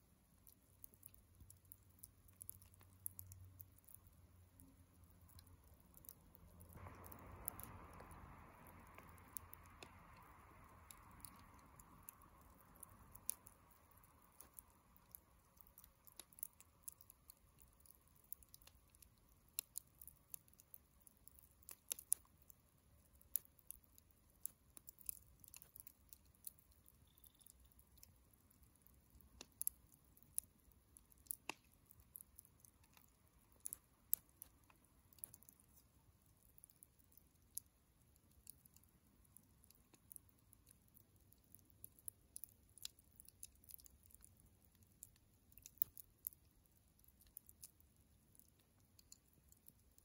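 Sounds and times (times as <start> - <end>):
embers crackling and popping: 0.0 - 50.0
soft hiss: 0.0 - 50.0.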